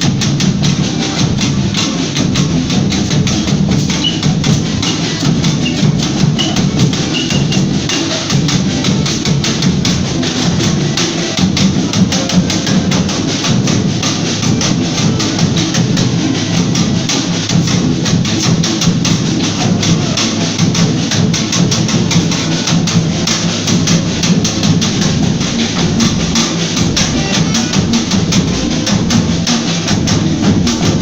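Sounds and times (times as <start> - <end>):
drum beating fast rhythm: 0.0 - 31.0.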